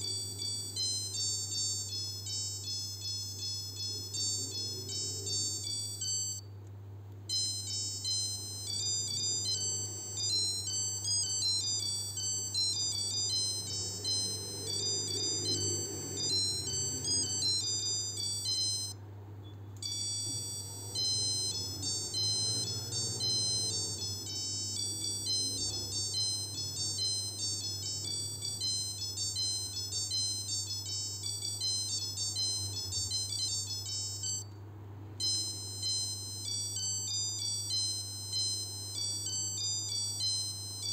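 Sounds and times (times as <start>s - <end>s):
watch alarm beeping tunes: 0.0s - 6.4s, 7.3s - 19.0s, 19.8s - 34.5s, 35.2s - 40.9s.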